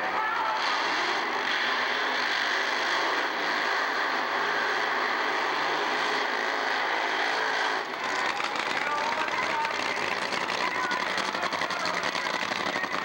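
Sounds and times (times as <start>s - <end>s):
supercharged engine running hard: 0.6s - 13.0s.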